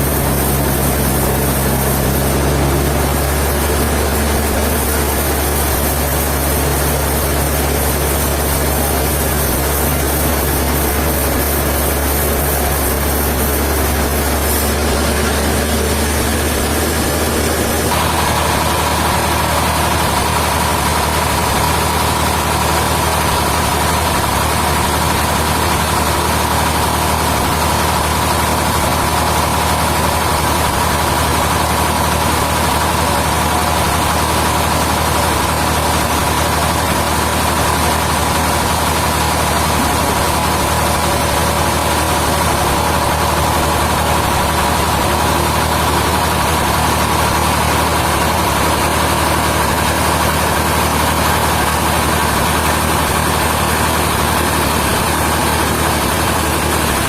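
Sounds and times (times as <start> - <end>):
constant high whine: 0.0 - 57.0
sawmill machinery hum: 0.0 - 57.0.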